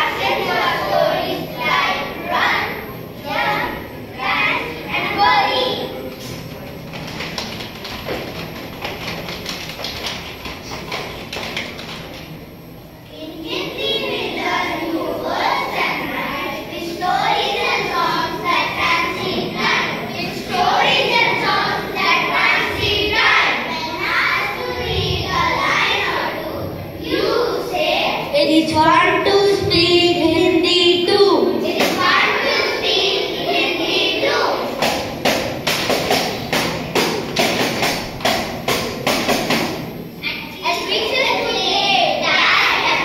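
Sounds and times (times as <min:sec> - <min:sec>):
children reciting aloud: 0:00.0 - 0:07.0, 0:13.1 - 0:43.0
murmur of voices: 0:00.0 - 0:43.0.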